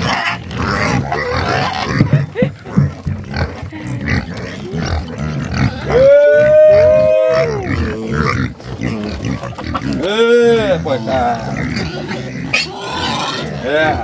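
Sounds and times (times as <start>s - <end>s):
pig squealing: 0.0s - 2.2s, 3.3s - 14.0s
pigs grunting: 0.0s - 14.0s.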